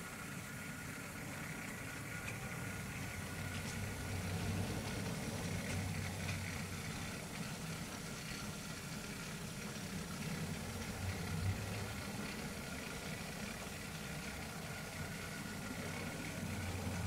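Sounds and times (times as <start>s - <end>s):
model train motor humming: 0.0s - 17.0s.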